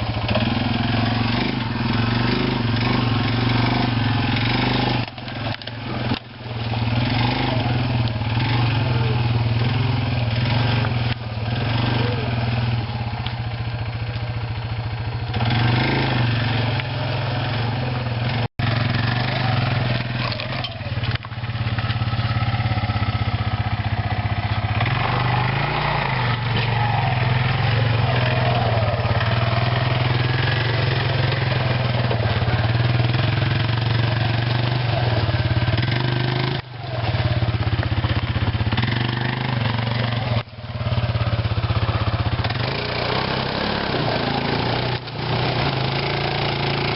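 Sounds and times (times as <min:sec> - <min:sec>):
quad bike engine running: 0:00.0 - 0:46.9.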